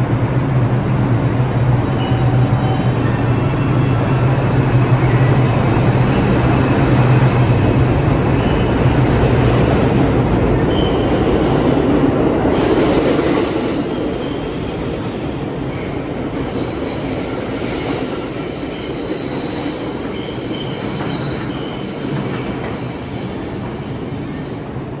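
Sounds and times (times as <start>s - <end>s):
subway train rumbling on rails: 0.0s - 25.0s
train wheels squealing: 2.0s - 4.2s, 6.2s - 11.8s, 12.5s - 24.8s.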